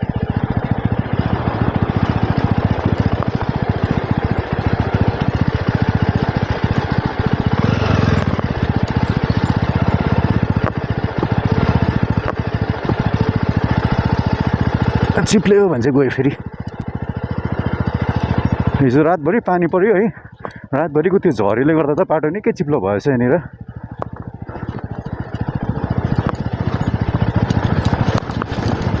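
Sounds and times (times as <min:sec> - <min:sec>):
motorcycle engine chugging: 0:00.0 - 0:29.0.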